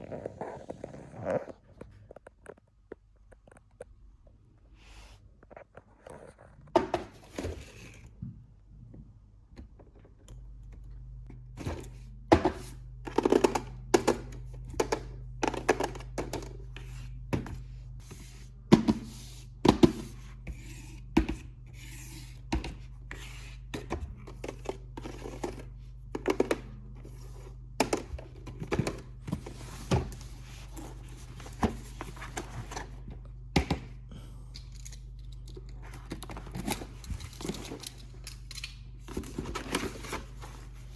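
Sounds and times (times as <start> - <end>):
steady low hum: 4.3 - 40.9.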